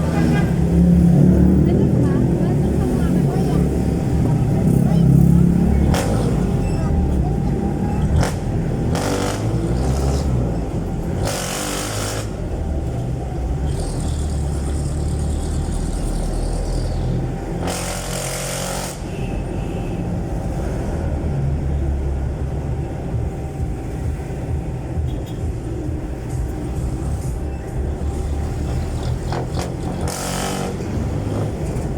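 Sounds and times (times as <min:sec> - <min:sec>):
diesel engine with loud exhaust: 0:00.0 - 0:31.9.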